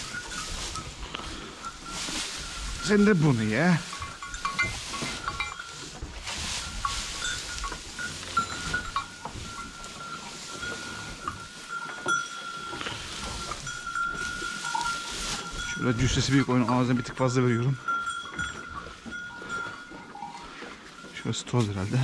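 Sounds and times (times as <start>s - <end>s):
dry hay rustling and crackling: 0.0s - 22.0s.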